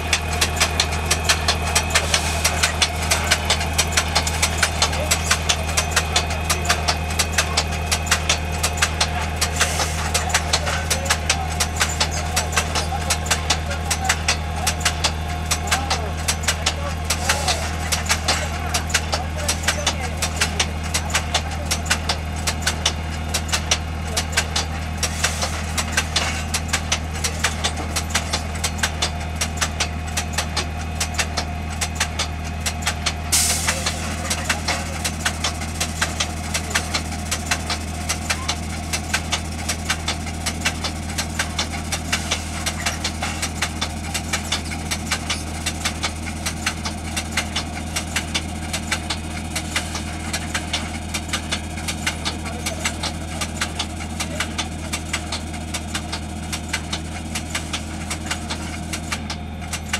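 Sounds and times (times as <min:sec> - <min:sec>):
fast machinery clicking: 0:00.0 - 0:59.9
loud machinery clank: 0:00.0 - 0:59.9.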